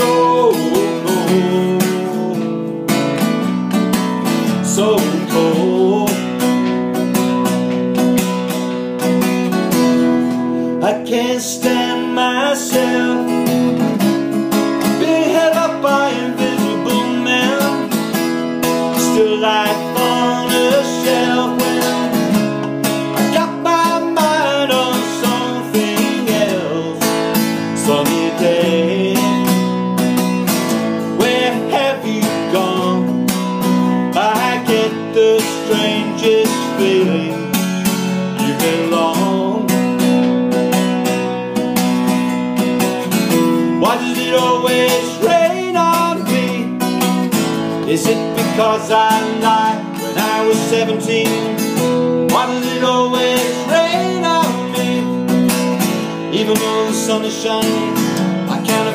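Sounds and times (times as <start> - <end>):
acoustic guitar playing: 0.0 - 58.9.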